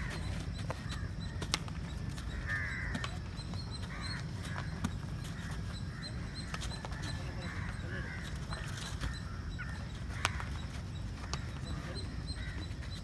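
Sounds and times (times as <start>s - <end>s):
birds cawing: 0.0s - 13.0s.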